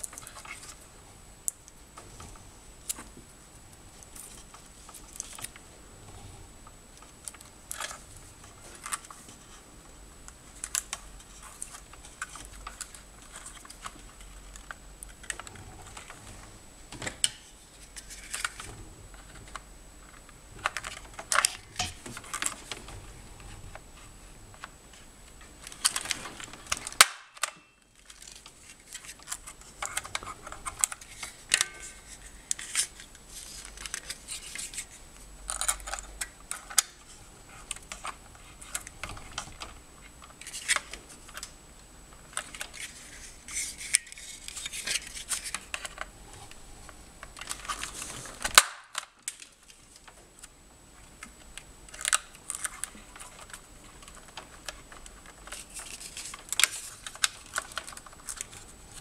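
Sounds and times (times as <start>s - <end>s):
wires rustling: 0.0s - 59.0s.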